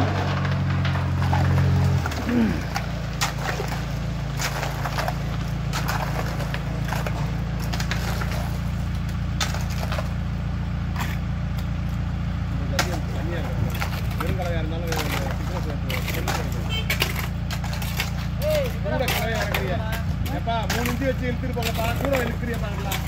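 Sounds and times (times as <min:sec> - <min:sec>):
concrete mixer engine running: 0:00.0 - 0:23.0.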